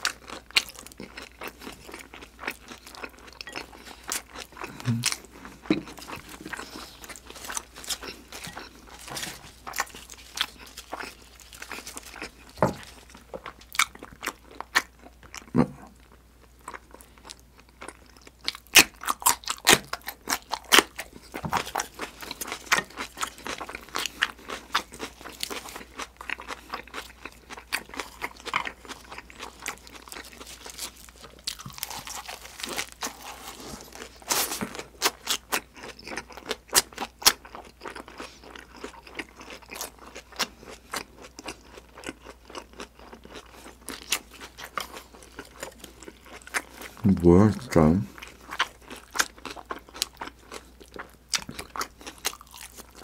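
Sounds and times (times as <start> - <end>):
chewing crisp lettuce: 0.0 - 53.0.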